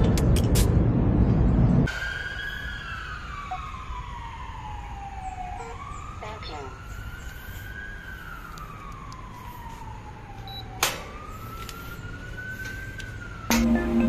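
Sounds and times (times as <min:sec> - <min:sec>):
siren wailing: 0:01.9 - 0:14.0.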